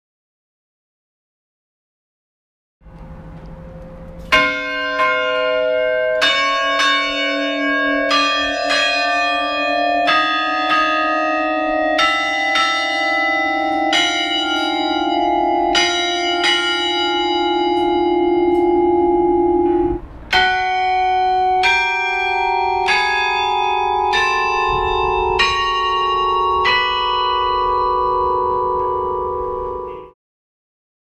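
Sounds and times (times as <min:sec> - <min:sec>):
chime bells ringing a slow tune: 0:03.0 - 0:30.2.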